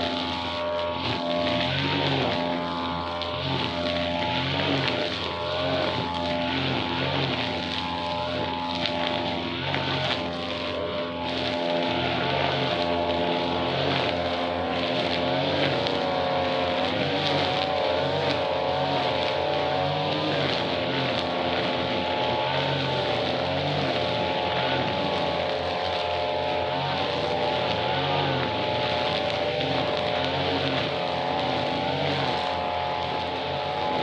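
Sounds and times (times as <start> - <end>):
two-stroke grass-cutter engine running: 0.0 - 34.0.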